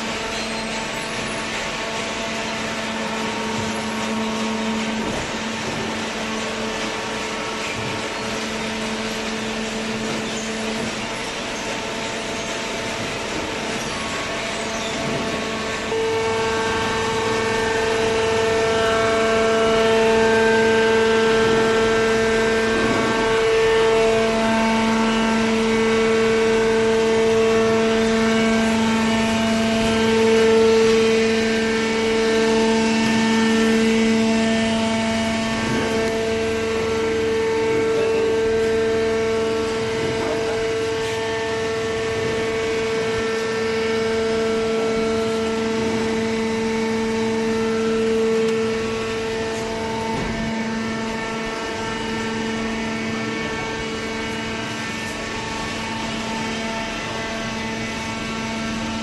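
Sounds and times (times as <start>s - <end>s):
baler machine hum and whine: 0.0s - 59.0s.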